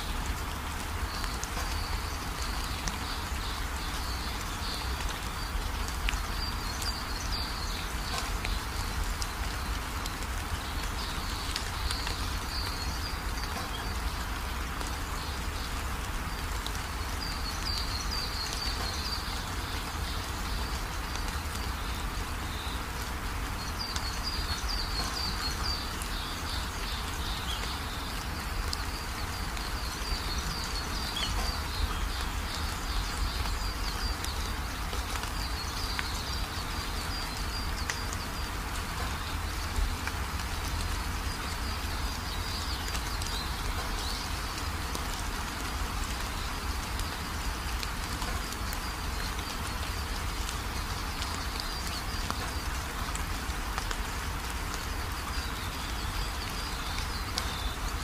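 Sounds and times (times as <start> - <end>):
rain on a metal roof: 0.0 - 58.0
runoff pouring off roof: 0.0 - 58.0.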